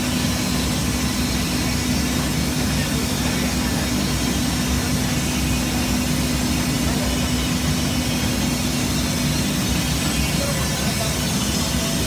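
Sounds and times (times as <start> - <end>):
constant hum: 0.0 - 12.0.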